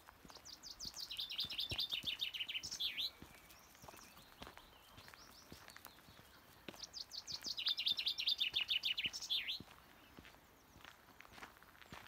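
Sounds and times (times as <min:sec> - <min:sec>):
footsteps on gravel: 0:00.0 - 0:12.0
songbird singing: 0:00.0 - 0:12.0.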